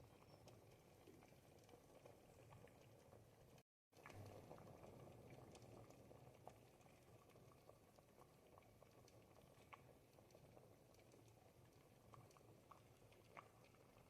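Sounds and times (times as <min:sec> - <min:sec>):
thick soup bubbling: 0:00.0 - 0:14.0.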